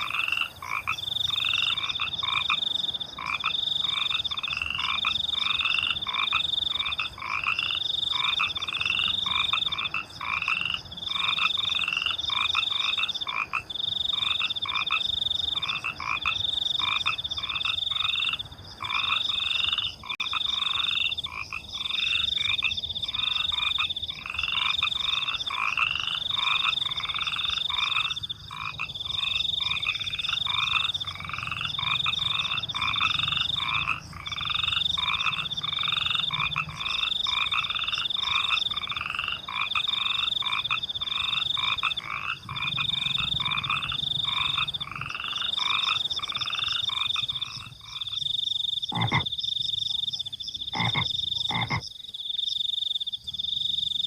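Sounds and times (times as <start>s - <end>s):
crickets trilling: 0.0s - 54.0s
frogs croaking: 0.0s - 54.0s.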